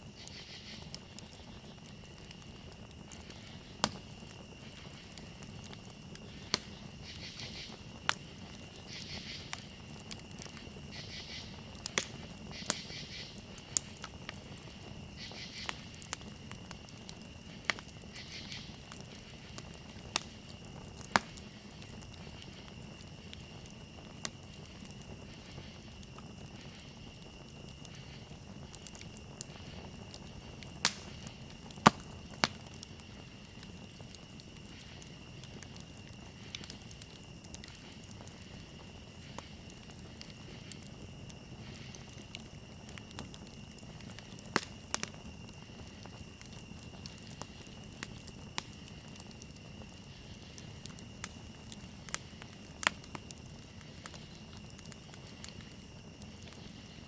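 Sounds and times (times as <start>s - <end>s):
campfire flames rumbling: 0.0s - 57.0s
wood crackling and popping: 0.0s - 57.0s.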